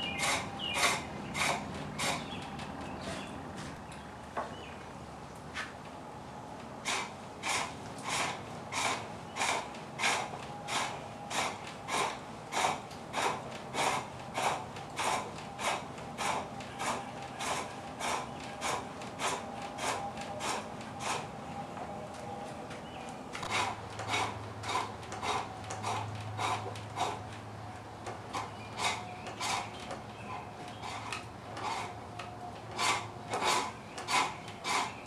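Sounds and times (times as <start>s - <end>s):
pole lathe cutting wood: 0.0s - 2.6s, 6.8s - 21.3s, 23.4s - 27.4s, 28.0s - 35.0s.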